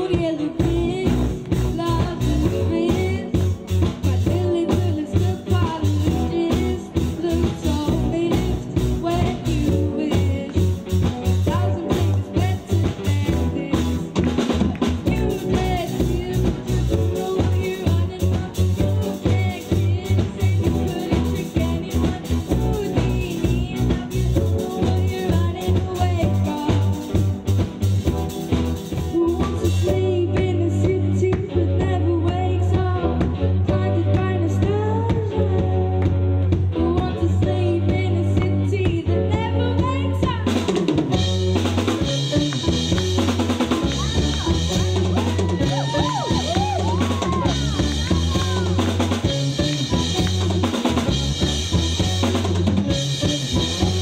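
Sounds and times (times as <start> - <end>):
drum kit beat: 0.0 - 54.0
electric bass: 0.0 - 54.0
electric guitar: 0.0 - 54.0
woman singing lead: 0.0 - 54.0.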